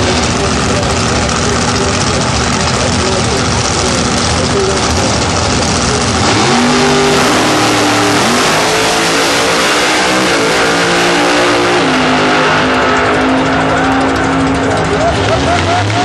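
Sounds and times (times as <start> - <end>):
drag cars at full throttle: 0.0 - 16.0.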